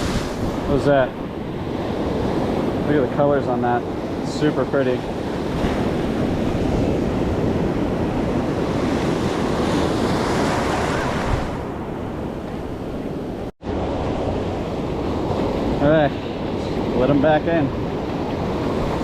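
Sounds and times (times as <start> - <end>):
surf washing up beach: 0.0 - 19.0
wind buffeting microphone: 0.0 - 19.0.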